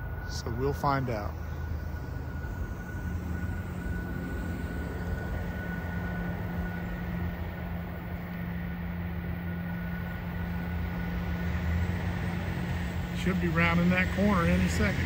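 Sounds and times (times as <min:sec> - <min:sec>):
diesel locomotive drone: 0:00.0 - 0:15.0.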